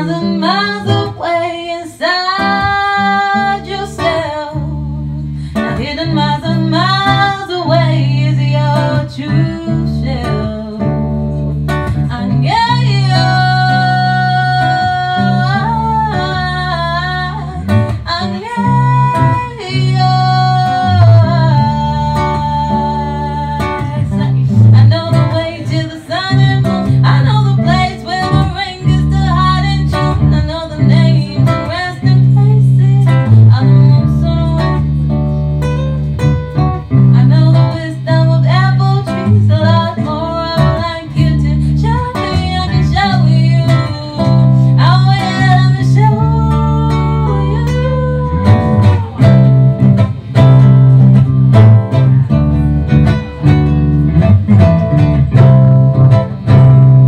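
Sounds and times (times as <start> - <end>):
woman singing: 0.0 - 35.0, 37.0 - 49.8
strummed guitar: 0.0 - 57.0
low bass line: 7.8 - 25.5, 26.3 - 57.0.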